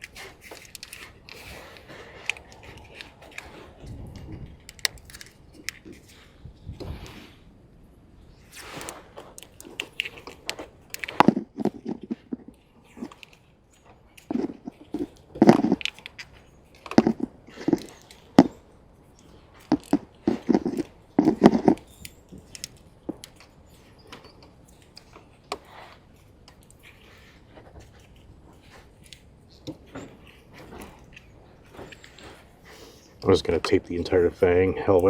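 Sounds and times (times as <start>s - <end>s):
plastic wire loom crinkling: 0.0s - 7.2s, 8.3s - 35.0s.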